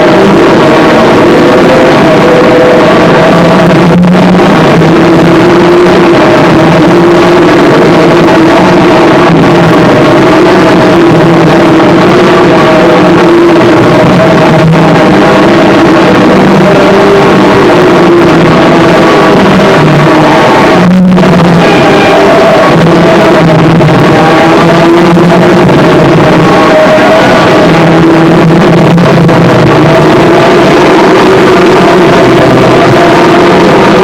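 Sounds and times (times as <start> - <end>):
distorted harsh noise: 0.0 - 34.0
droning tones: 0.0 - 34.0.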